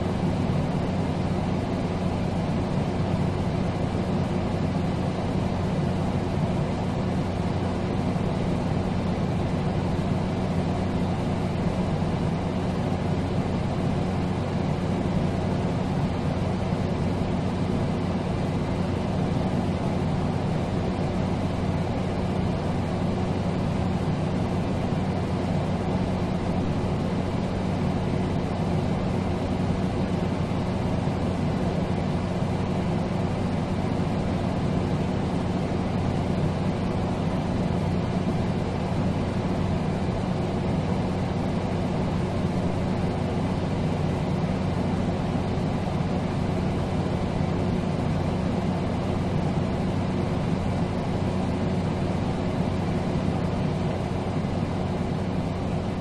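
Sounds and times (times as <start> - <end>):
air conditioner fan rush: 0.0 - 56.0.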